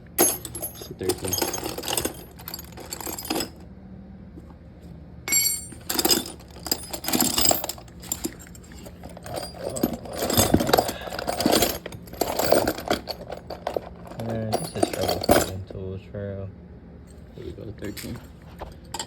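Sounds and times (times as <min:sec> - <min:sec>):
metal tools clinking and clattering: 0:00.2 - 0:03.6, 0:05.3 - 0:15.7, 0:17.4 - 0:19.0.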